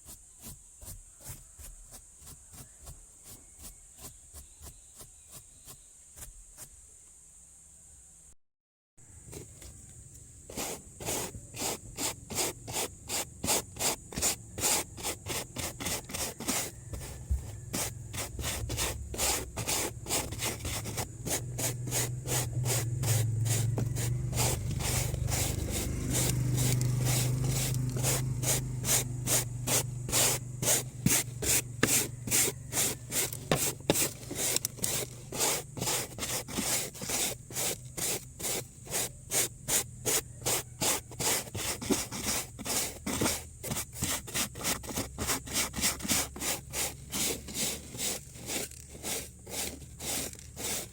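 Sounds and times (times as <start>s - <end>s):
brush scrubbing a car: 0.0s - 6.7s, 10.5s - 50.9s.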